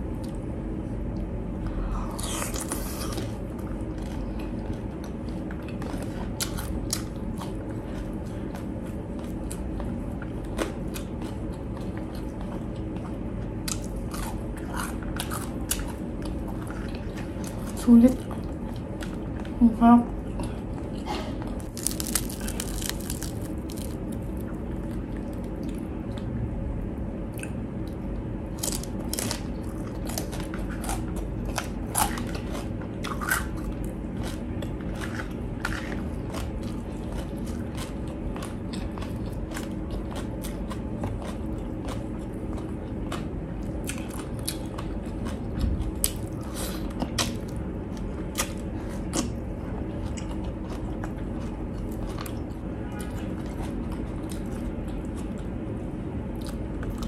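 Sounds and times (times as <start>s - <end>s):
crunching of crispy fried pork: 0.0s - 19.6s, 20.6s - 57.0s
quiet chewing: 1.0s - 26.4s, 27.3s - 57.0s.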